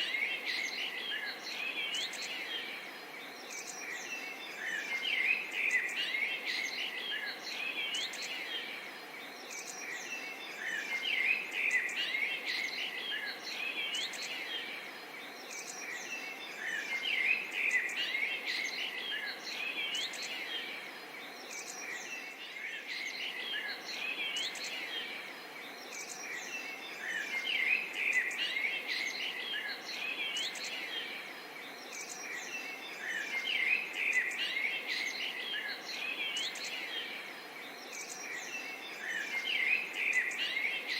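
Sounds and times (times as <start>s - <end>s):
faint background hiss: 0.0s - 40.9s
many birds chirping: 0.0s - 40.9s.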